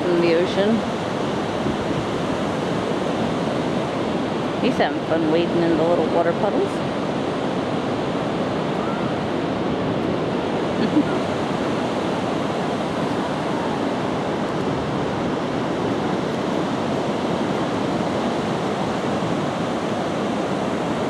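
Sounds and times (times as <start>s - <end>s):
surf washing on sandy beach: 0.0s - 21.0s.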